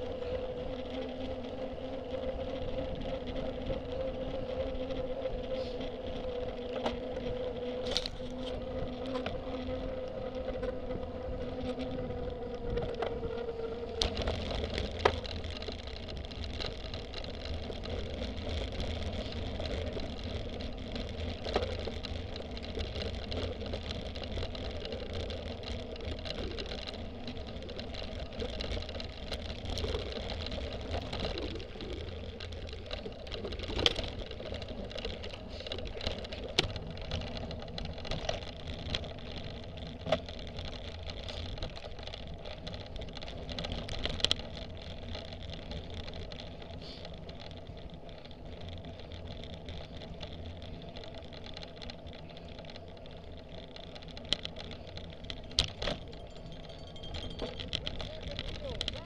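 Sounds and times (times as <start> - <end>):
bike clicks and knocks: 0.0 - 59.0
bike tyres rolling on tarmac: 0.0 - 59.0
bike tyres rumbling on grass: 0.0 - 59.0.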